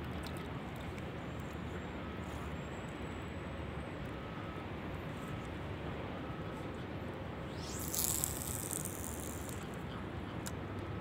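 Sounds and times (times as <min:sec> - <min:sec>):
city ambience rumble and hiss: 0:00.0 - 0:11.0.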